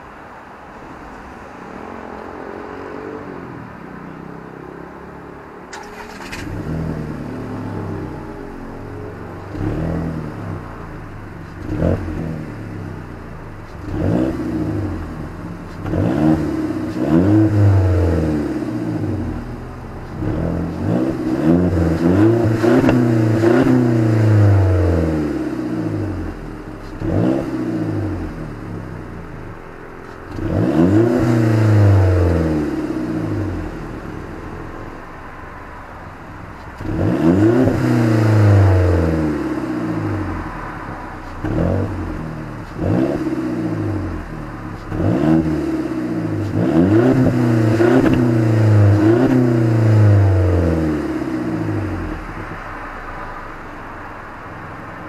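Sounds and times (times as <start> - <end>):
car engine revving: 2.3 - 55.0.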